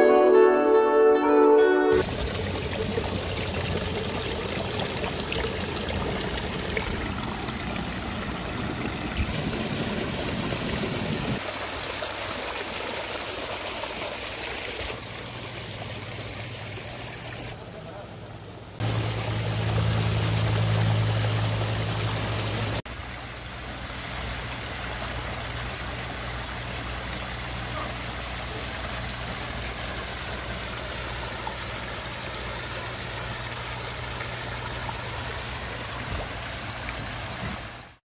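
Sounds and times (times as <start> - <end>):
waterfall splashing over rocks: 2.0 - 17.6, 18.8 - 38.0.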